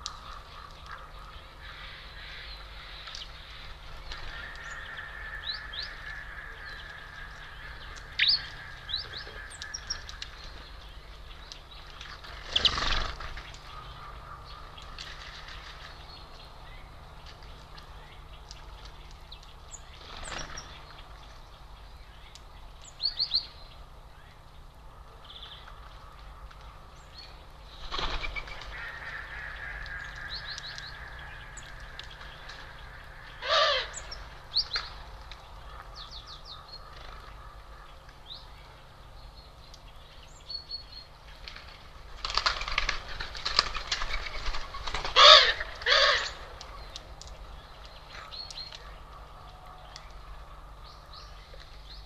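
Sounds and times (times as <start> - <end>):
small songbirds chirping: 0.0 - 52.0.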